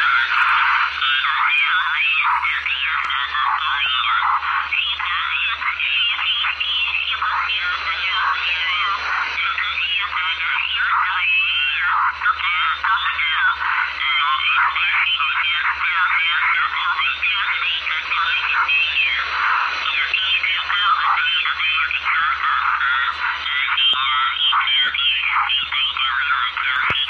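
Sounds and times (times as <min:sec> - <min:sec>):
garbled radio voice chatter: 0:00.0 - 0:27.0
steady low hum: 0:00.0 - 0:27.0.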